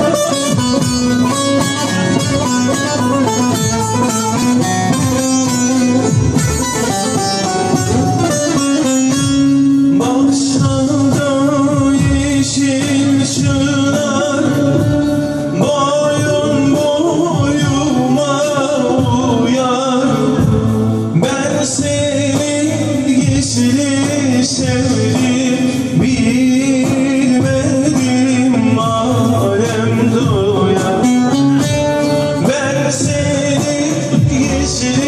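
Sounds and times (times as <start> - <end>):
man singing: 0.0 - 35.0
plucked lute: 0.0 - 35.0.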